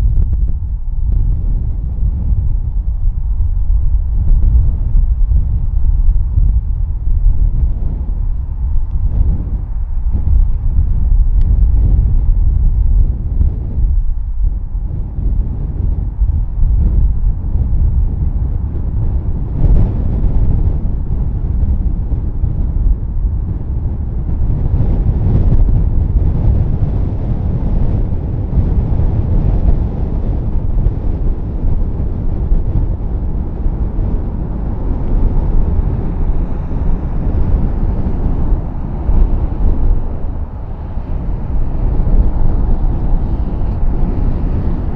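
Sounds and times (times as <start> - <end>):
gusty wind buffeting microphone: 0.0 - 44.9.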